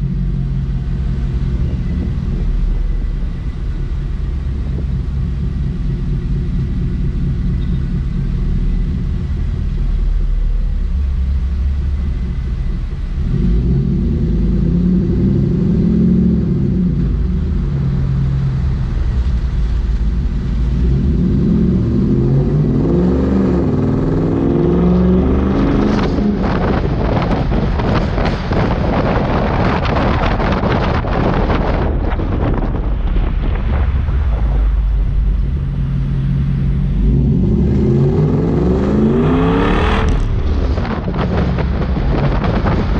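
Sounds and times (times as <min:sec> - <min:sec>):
wind buffeting microphone: 0:00.0 - 0:10.6, 0:11.2 - 0:42.9
droning tone: 0:00.0 - 0:27.2, 0:31.9 - 0:42.5.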